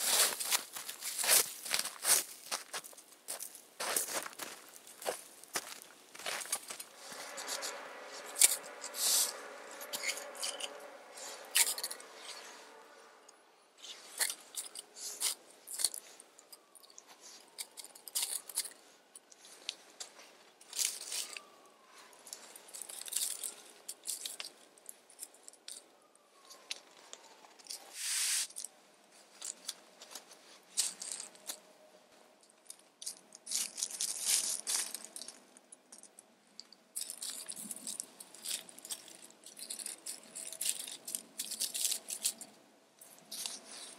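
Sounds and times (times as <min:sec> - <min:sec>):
twigs crackling and snapping: 0:00.0 - 0:12.9, 0:13.8 - 0:31.6, 0:32.4 - 0:43.9.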